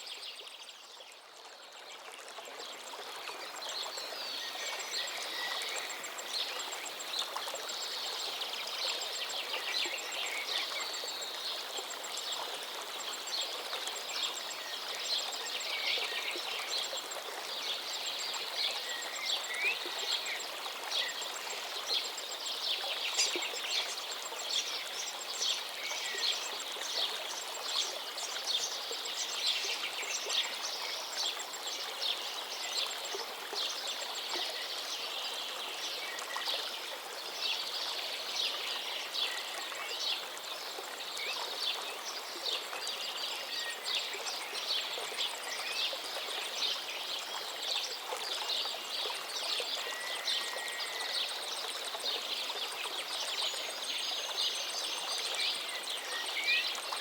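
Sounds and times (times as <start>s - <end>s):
river running: 0.0s - 57.0s.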